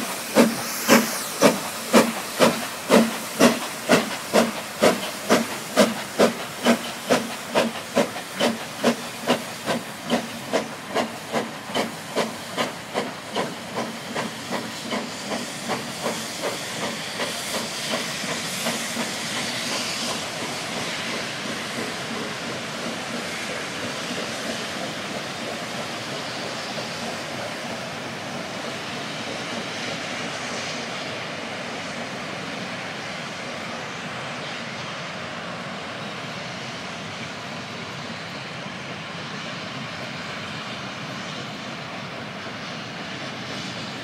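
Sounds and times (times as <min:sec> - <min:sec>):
steam locomotive exhaust beats: 0:00.0 - 0:44.0.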